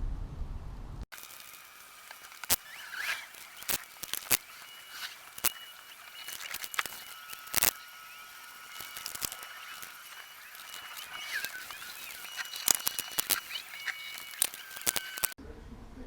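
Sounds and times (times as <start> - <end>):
sharp clicks and knocks: 1.1 - 15.4.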